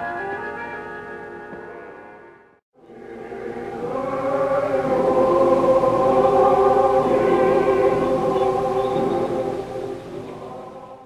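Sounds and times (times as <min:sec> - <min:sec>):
film music sustained chords: 0:00.0 - 0:11.0.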